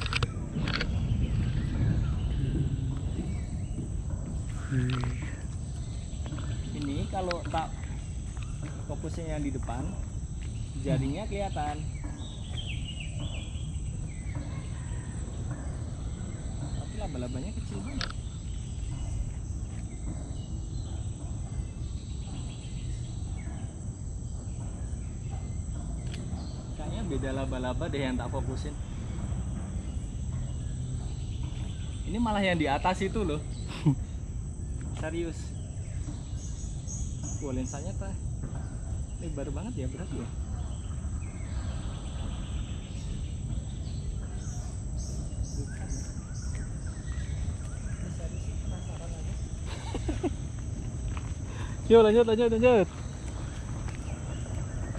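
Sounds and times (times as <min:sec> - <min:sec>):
high-pitched insect drone: 0:00.0 - 0:54.9
low rumble: 0:00.0 - 0:54.9
lower bird chirps: 0:00.0 - 0:54.9.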